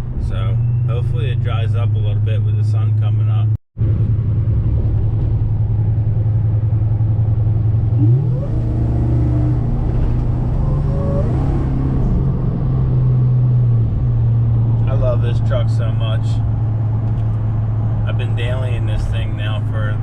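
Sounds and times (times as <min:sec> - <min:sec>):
road noise: 0:00.0 - 0:20.0
truck engine accelerating: 0:00.0 - 0:20.0.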